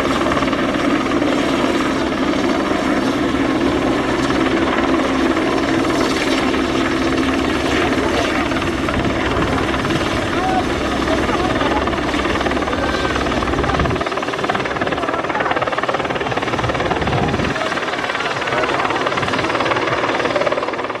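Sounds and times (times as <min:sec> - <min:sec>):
helicopter flying past: 0:00.0 - 0:21.0.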